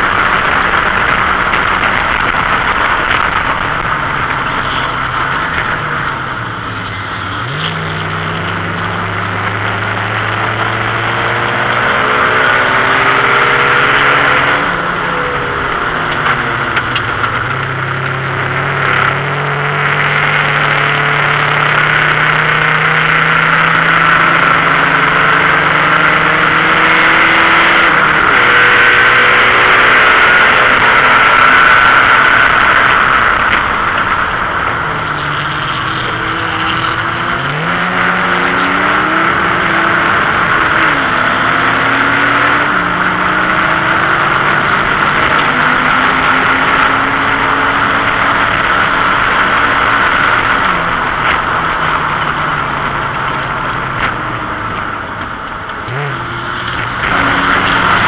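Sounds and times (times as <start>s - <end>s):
car engine revving through gears: 0.0s - 58.0s
wind and road noise: 0.0s - 58.0s.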